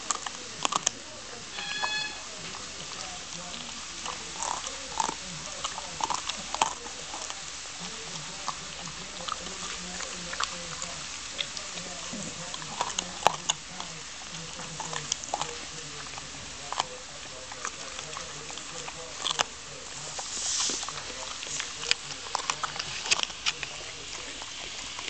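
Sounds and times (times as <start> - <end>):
dog chewing broccoli stem: 0.0 - 25.0.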